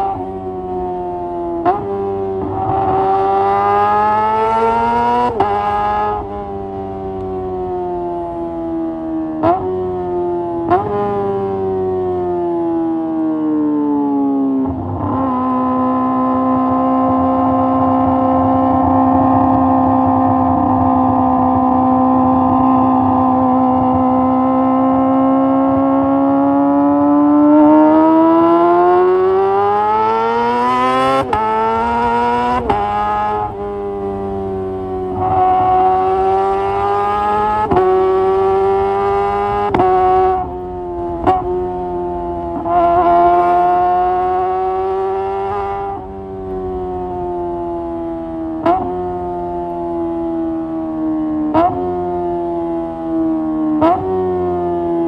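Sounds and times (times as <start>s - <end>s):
motorcycle engine revving: 0.0s - 13.2s, 14.5s - 55.0s.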